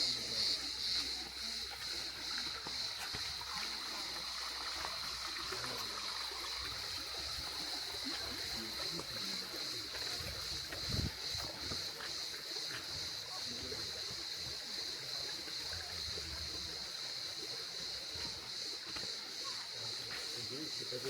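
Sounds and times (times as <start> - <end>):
high-pitched hiss: 0.0 - 21.0
water flowing and splashing: 0.0 - 21.0.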